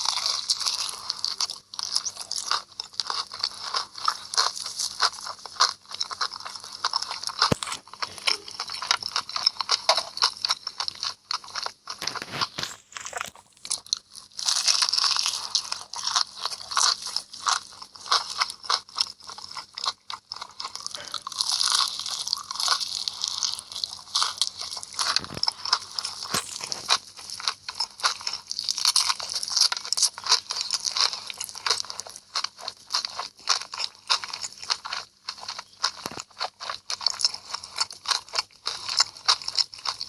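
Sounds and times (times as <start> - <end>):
crunchy eating: 0.0 - 40.0.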